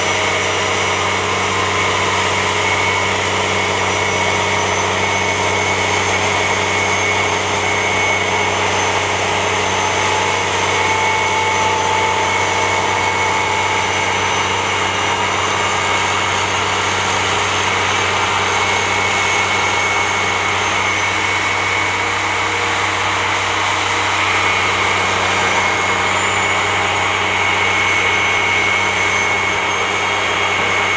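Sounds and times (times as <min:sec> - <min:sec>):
engine humming with whine: 0:00.0 - 0:30.9.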